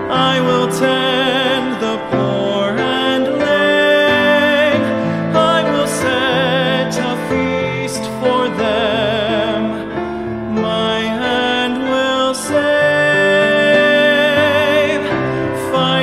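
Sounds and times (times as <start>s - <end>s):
grand piano: 0.0s - 16.0s
tenor singing a hymn: 0.0s - 16.0s.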